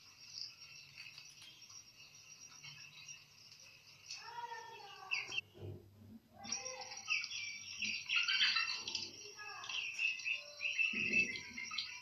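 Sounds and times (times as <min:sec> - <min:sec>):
bird chirping and twittering: 0:00.0 - 0:12.0.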